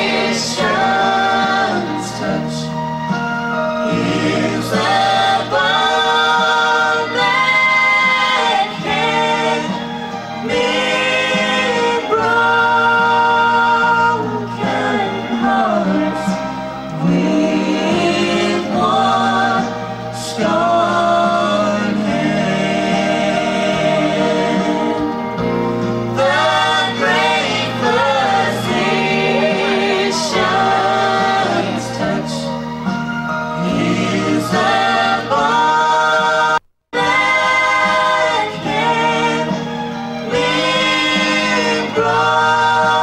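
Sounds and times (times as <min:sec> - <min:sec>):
gospel trio singing in harmony: 0:00.0 - 0:43.0.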